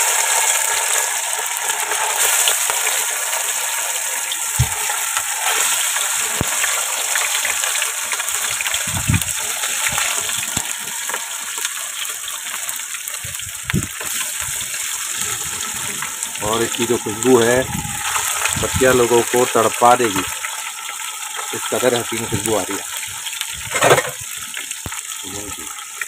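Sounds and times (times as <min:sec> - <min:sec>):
deep-frying sizzle: 0:00.0 - 0:26.0.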